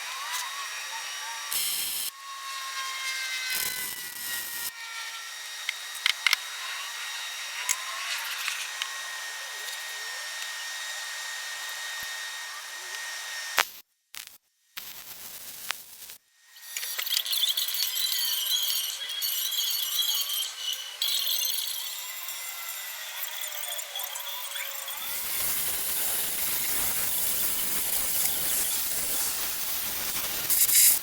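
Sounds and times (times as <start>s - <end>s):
power tool whining: 0.0s - 13.6s, 16.5s - 31.0s.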